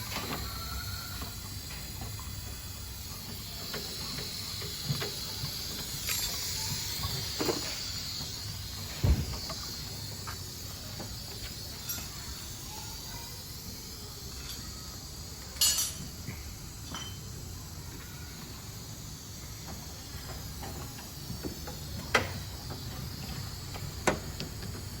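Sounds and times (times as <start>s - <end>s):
high hiss: 0.0s - 25.0s.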